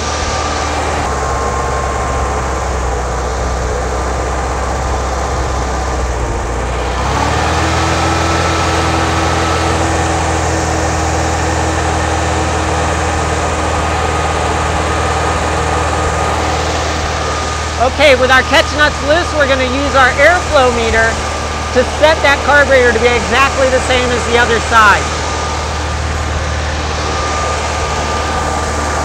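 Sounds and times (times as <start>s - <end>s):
car engine running steadily: 0.0s - 29.0s.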